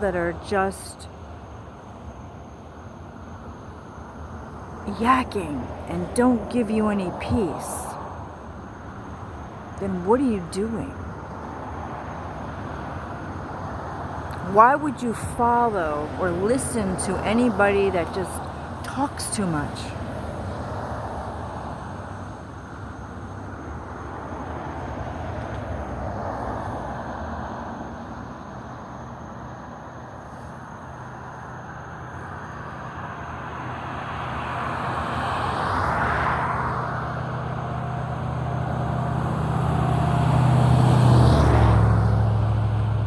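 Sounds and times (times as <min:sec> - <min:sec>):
low engine hum: 0:00.0 - 0:43.0
road traffic passing: 0:00.0 - 0:43.0.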